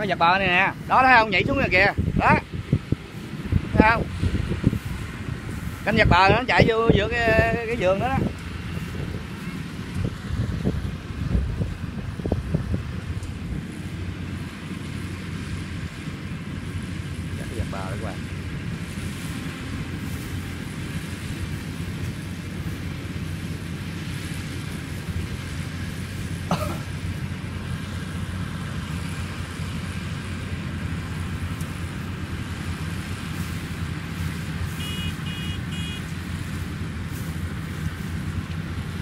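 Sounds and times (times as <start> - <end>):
combine harvester droning: 0.0 - 39.0.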